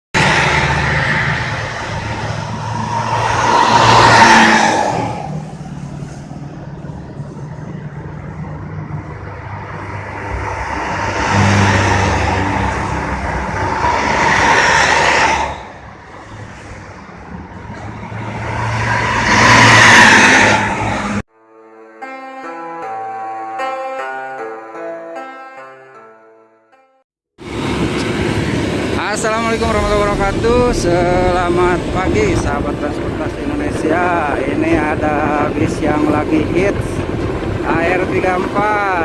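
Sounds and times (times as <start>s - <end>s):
low engine drone: 0.2s - 21.2s, 27.4s - 39.0s
vehicles passing close by: 0.2s - 21.2s, 27.4s - 39.0s.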